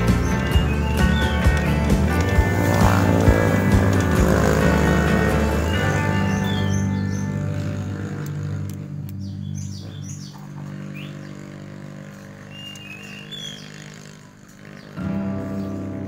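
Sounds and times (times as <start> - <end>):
background music low notes: 0.0 - 16.0
birds chirping: 0.0 - 16.0.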